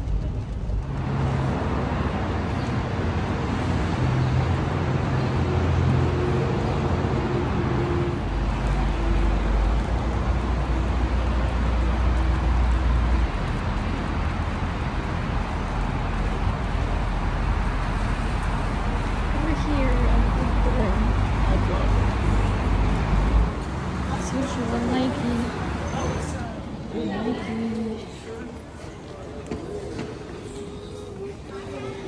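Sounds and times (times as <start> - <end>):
tyre and road noise: 0.0 - 32.0.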